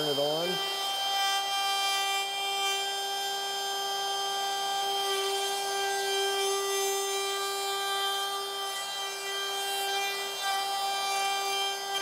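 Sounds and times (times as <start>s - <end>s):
router high whine: 0.0s - 12.0s.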